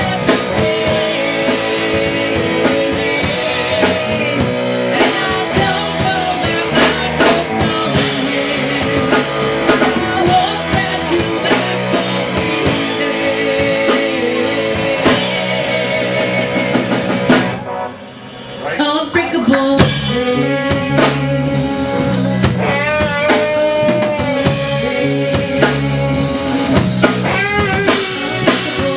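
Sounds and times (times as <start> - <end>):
woman singing lead: 0.0 - 17.6, 18.6 - 28.9
drum kit: 0.0 - 28.9
electric guitar: 0.0 - 28.9
keyboard: 0.0 - 28.9.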